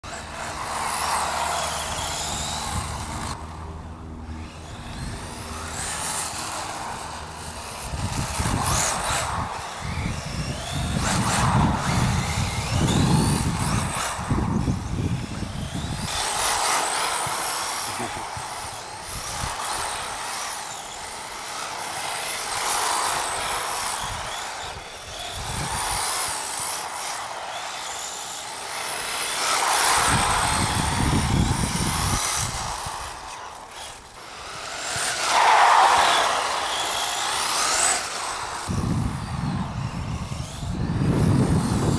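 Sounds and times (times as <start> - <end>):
rc car motor and tyres: 0.0 - 41.9.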